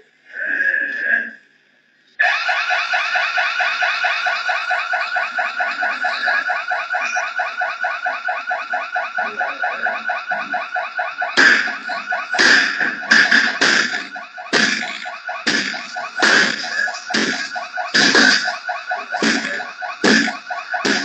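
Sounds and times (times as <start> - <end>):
pulsing security alarm: 2.2 - 21.0.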